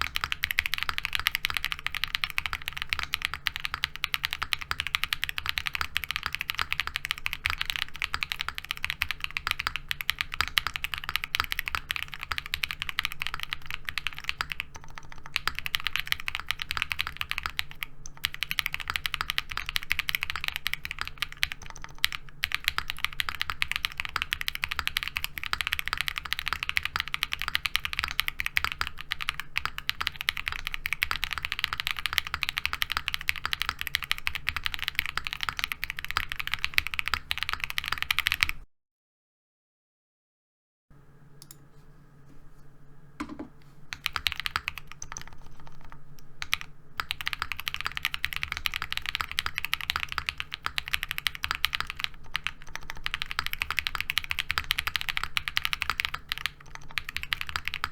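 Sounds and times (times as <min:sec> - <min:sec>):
keyboard typing clacks: 0:00.0 - 0:38.6, 0:43.2 - 0:57.9.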